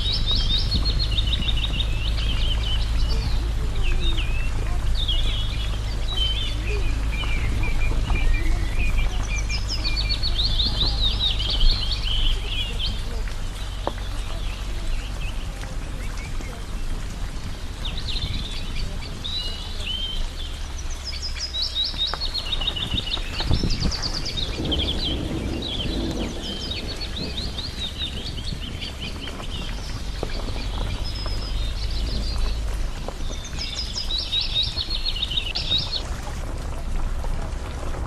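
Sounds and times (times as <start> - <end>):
songbirds chirping and twittering: 0.0 - 38.0
steady low rumble: 0.0 - 38.0.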